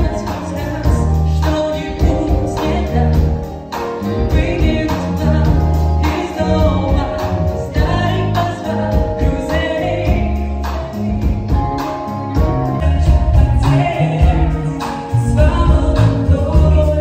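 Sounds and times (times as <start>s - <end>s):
live band music: 0.0s - 17.0s
woman singing: 0.0s - 17.0s.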